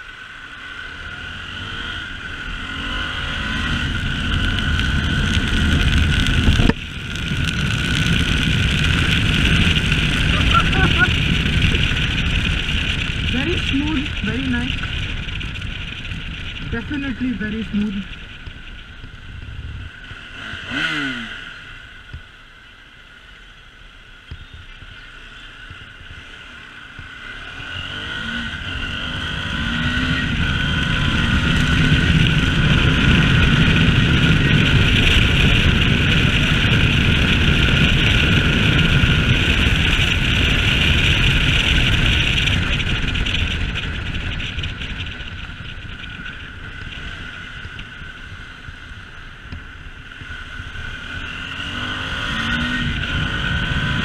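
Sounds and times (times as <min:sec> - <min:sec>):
motorcycle engine accelerating: 0:00.0 - 0:23.4, 0:24.1 - 0:54.0.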